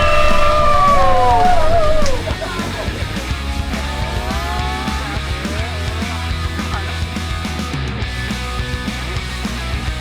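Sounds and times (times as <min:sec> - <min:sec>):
music: 0:00.0 - 0:10.0.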